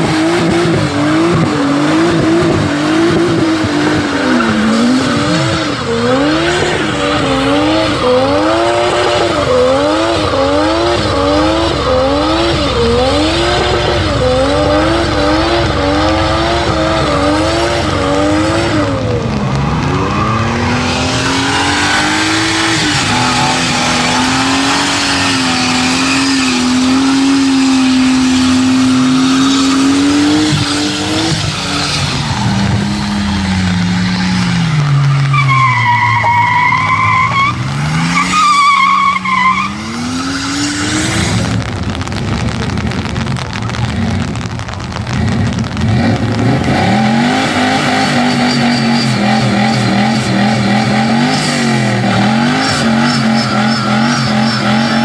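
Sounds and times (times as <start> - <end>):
car engine revving: 0.0 - 55.0
tyres squealing: 3.6 - 41.6, 47.1 - 55.0.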